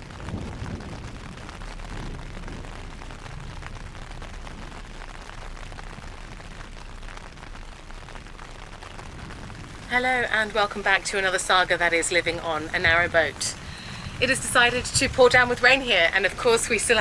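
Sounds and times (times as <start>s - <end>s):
heavy rain pouring: 0.0s - 17.0s
low rumble: 0.0s - 17.0s.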